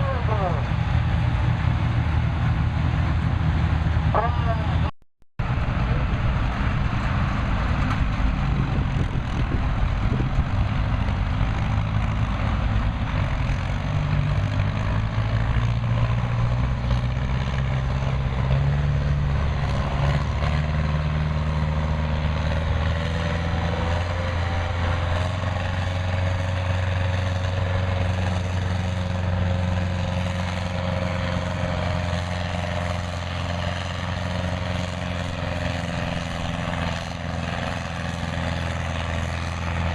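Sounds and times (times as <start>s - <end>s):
tractor engine running hard: 0.0s - 39.9s.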